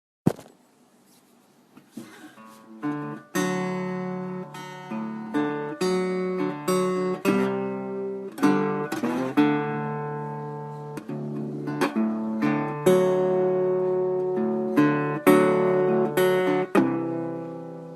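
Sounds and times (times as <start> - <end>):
acoustic guitar: 0.3 - 17.9.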